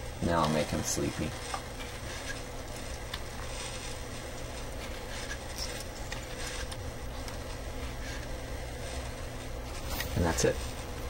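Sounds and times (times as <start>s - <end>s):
small electric motors and gears: 0.0s - 11.0s
steady low hum: 0.0s - 11.0s.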